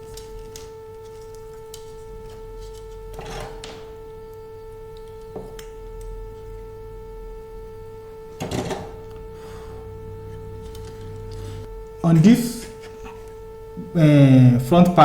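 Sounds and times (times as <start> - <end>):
electrical whine: 0.0 - 15.0.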